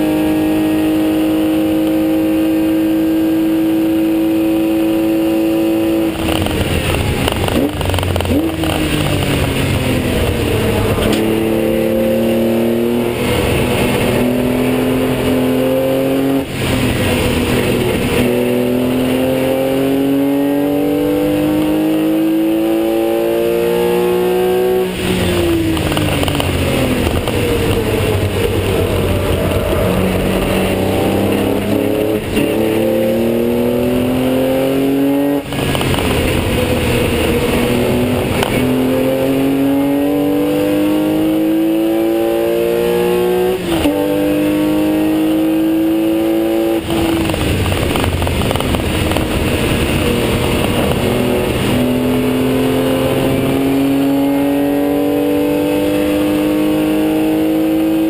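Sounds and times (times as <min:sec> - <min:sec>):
car engine at full throttle: 0:00.0 - 0:58.0
tyre road and wind noise: 0:00.0 - 0:58.0.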